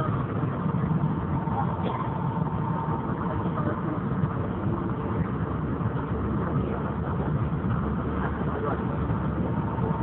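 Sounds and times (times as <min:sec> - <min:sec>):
vehicle engines in slow traffic: 0:00.0 - 0:10.0.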